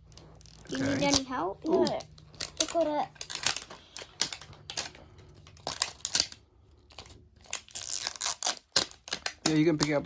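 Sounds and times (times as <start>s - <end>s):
wrapping torn and crinkled by hand: 0.0s - 10.0s.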